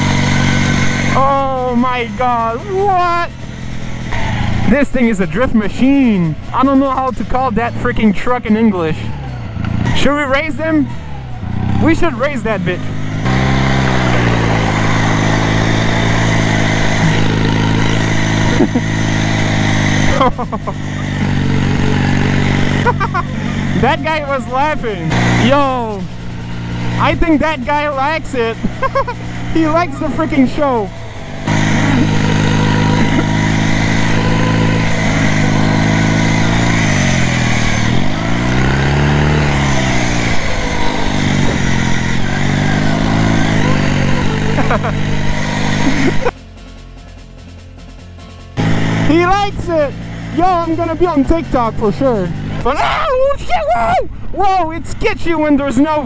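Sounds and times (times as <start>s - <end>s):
lawn mower engine running loud: 0.0s - 53.0s.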